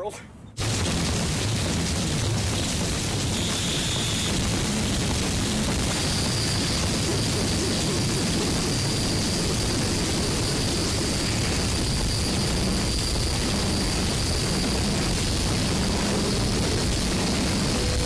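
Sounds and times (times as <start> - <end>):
loud harsh broadband noise: 0.6 - 18.0.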